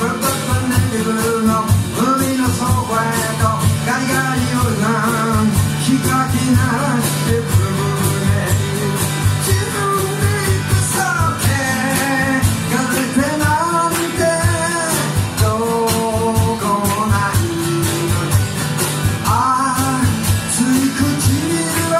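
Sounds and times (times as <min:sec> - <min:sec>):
man singing: 0:00.0 - 0:21.9
percussion beat: 0:00.0 - 0:21.9
strummed acoustic guitar: 0:00.0 - 0:21.9.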